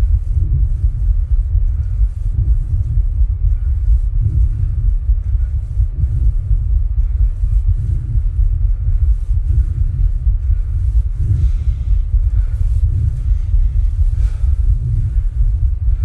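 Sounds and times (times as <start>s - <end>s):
heartbeat thumps: 0.0s - 16.0s
heavy low rumble: 0.0s - 16.0s.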